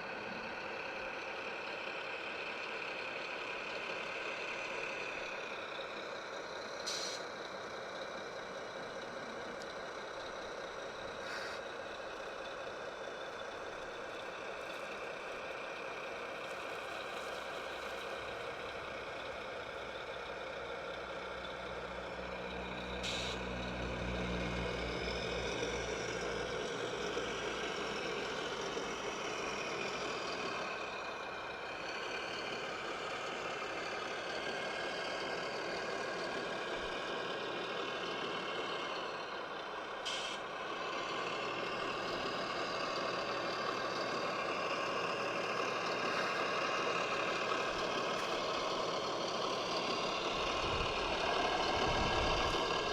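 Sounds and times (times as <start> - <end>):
steady engine-like drone: 0.0 - 52.9.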